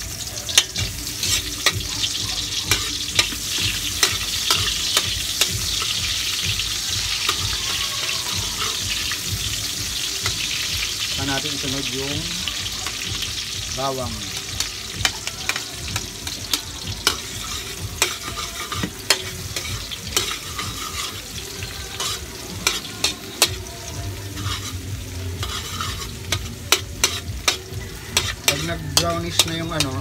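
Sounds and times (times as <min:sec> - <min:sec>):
onions sizzling in hot oil: 0:00.0 - 0:30.0
metal spatula scraping wok: 0:00.4 - 0:10.7, 0:14.3 - 0:30.0.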